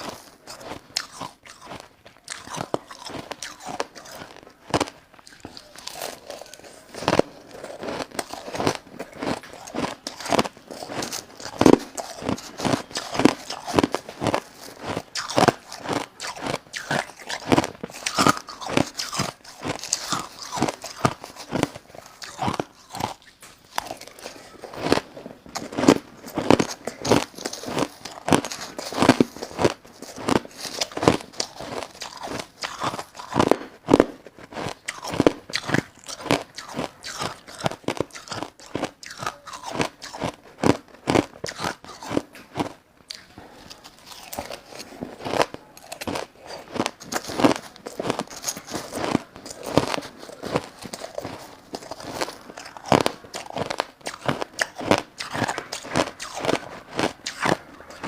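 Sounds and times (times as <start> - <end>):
person crunching ice: 0.0 - 58.0.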